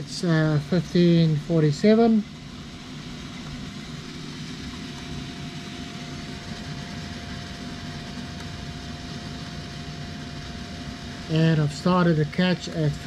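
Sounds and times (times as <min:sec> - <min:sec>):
faint high whine: 0:00.0 - 0:13.0
mechanical hum: 0:00.0 - 0:13.0.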